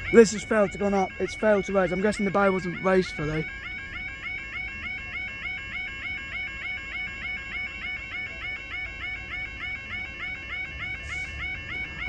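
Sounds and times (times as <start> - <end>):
level crossing alarm warbling: 0.0 - 12.0.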